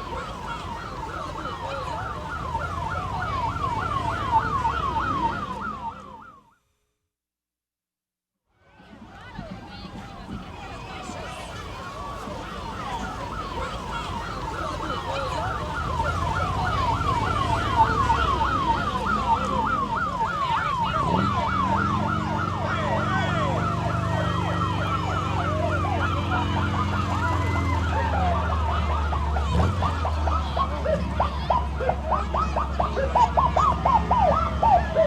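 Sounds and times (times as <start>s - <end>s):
crowd noise: 0.0s - 6.4s, 8.6s - 35.0s
siren yelping: 0.0s - 6.4s, 11.5s - 35.0s.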